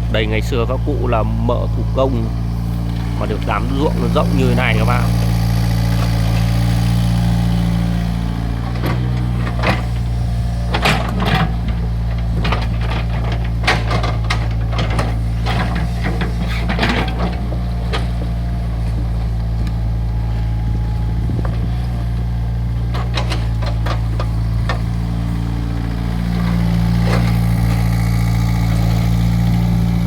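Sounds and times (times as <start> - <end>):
excavator diesel engine running: 0.0 - 30.0
clunks and scrapes digging soil: 0.4 - 30.0.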